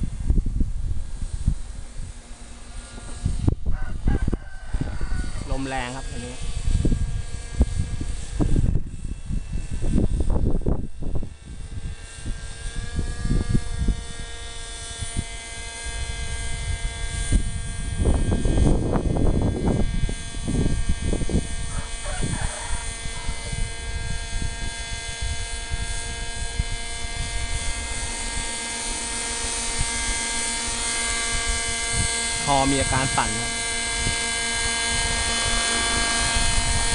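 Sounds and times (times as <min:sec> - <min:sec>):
model helicopter rotor whine: 0:00.0 - 0:36.9
wind buffeting microphone: 0:00.0 - 0:36.9.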